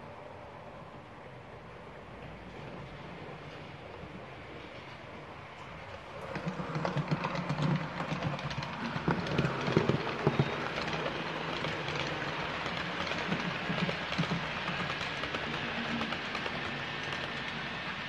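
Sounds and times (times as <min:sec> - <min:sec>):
model train rolling hum: 0:00.0 - 0:18.0
wheels clicking on track: 0:02.2 - 0:18.0.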